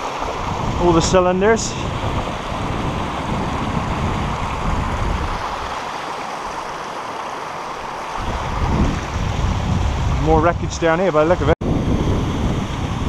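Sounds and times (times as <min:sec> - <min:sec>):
wind buffeting microphone: 0:00.0 - 0:05.8, 0:08.1 - 0:13.0
stream water rushing: 0:00.0 - 0:13.0.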